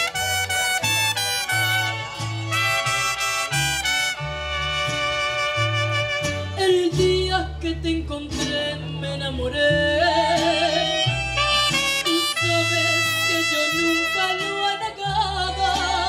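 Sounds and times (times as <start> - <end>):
mariachi band playing: 0.0 - 16.0.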